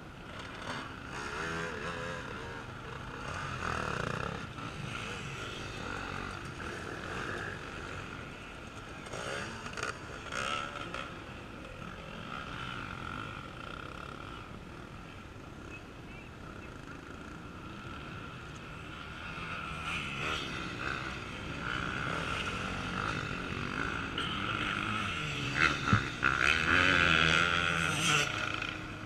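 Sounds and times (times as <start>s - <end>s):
motorcycle engine revving: 0.0s - 15.8s, 16.5s - 29.0s
off-road motorcycle engines: 0.0s - 29.0s.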